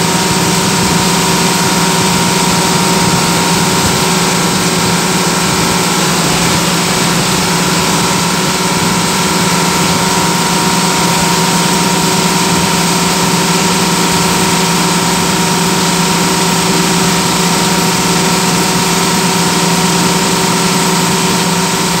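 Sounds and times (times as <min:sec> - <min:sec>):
bus engine hum: 0:00.0 - 0:22.0.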